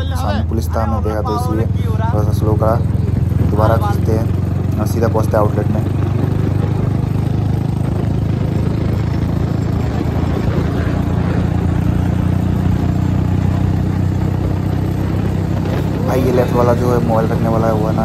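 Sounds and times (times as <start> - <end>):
motorcycle engine under throttle: 0.6 - 18.0.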